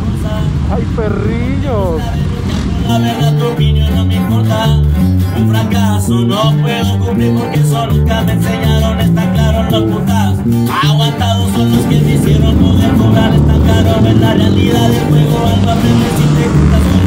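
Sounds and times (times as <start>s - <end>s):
background music with bass line: 0.0s - 17.0s.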